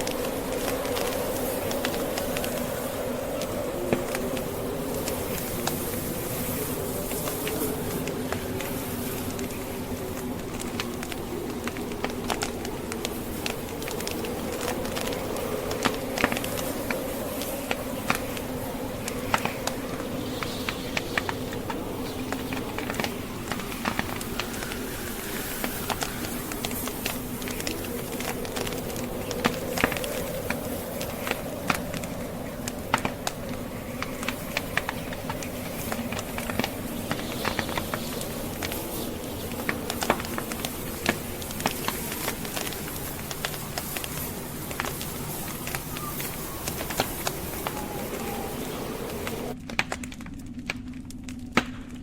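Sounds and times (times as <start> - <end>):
blizzard wind blowing: 0.0 - 52.0
wood fire crackling and popping: 0.0 - 52.0.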